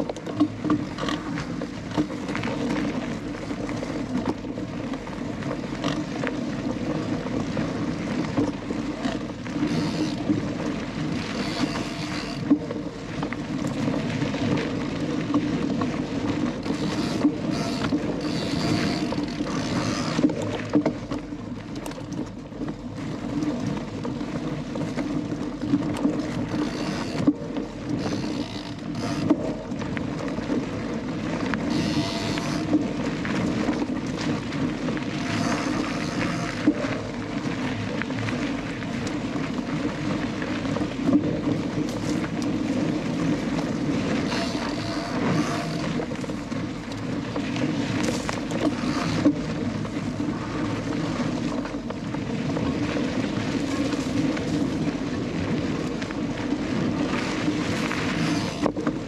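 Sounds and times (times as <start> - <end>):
bike tyres rumbling on dirt: 0.0 - 59.0.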